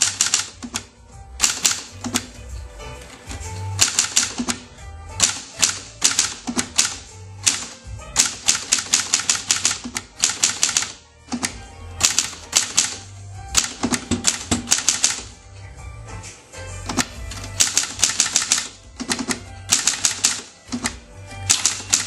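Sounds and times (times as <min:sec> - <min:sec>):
manual typewriter key strikes: 0:00.0 - 0:02.4, 0:03.3 - 0:15.4, 0:16.9 - 0:22.0.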